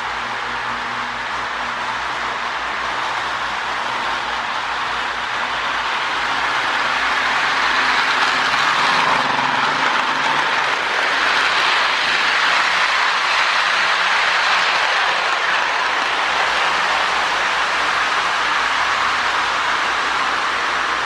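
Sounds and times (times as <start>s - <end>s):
toy train motors whirring: 0.0s - 21.0s
wheels rolling on rails: 0.0s - 21.0s.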